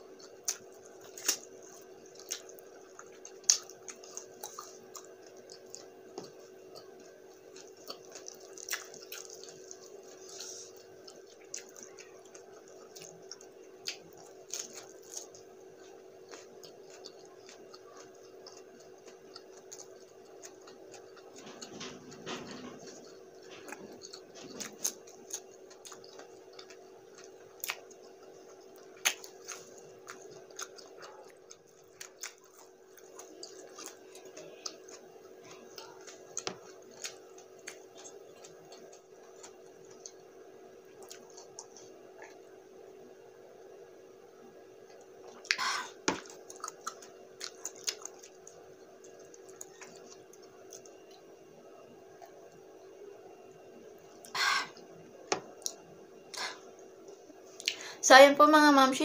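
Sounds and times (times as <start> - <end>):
person chewing: 0.0 - 42.6, 44.8 - 51.3, 54.0 - 57.9
steady low hum: 0.0 - 59.0.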